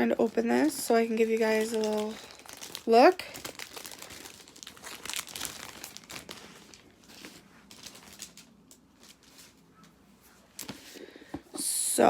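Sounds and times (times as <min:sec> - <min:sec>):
wrapping crinkling and rustling: 0:00.0 - 0:11.2.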